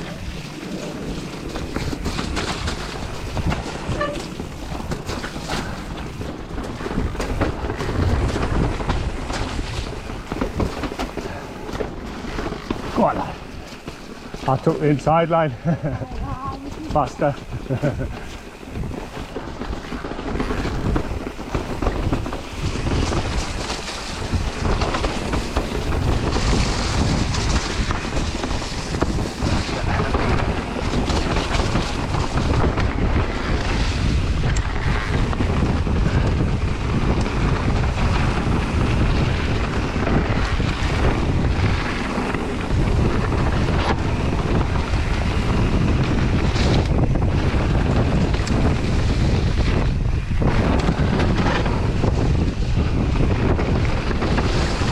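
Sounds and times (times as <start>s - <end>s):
bike knocking and rattling: 0.0s - 54.9s
tyres rolling over rough trail: 0.0s - 54.9s
wind buffeting microphone: 0.0s - 54.9s.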